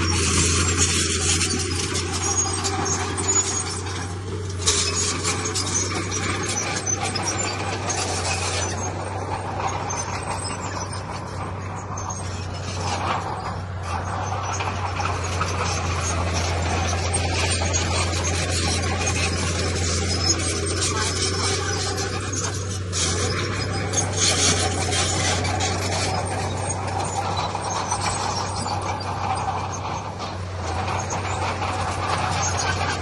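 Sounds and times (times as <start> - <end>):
diesel machinery droning: 0.0 - 33.0
rough hiss and rattle: 0.0 - 33.0.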